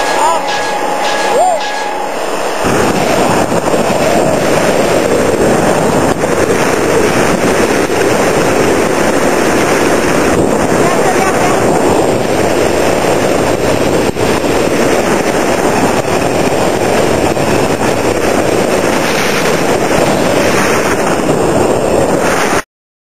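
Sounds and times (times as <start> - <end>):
waterfall rushing: 0.0 - 20.8
wind buffeting microphone: 0.0 - 22.6.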